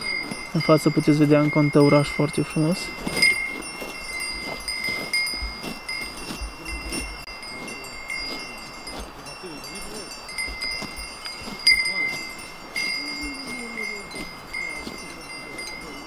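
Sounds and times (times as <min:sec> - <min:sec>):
cattle bells clanking: 0:00.0 - 0:16.0.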